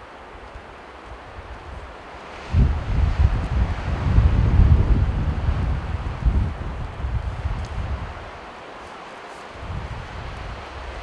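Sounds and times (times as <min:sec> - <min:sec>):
wind hiss: 0:00.0 - 0:11.0
wind buffeting microphone: 0:00.4 - 0:08.4, 0:09.5 - 0:11.0.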